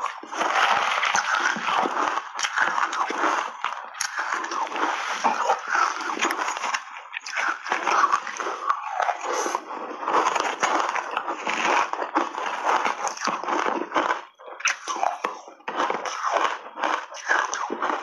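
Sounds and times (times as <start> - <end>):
chewing crushed ice: 0.0 - 18.0.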